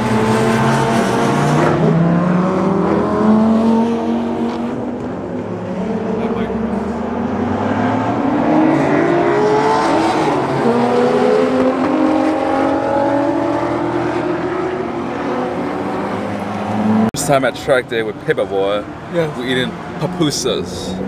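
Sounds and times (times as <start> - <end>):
race car engines accelerating: 0.0 - 21.0.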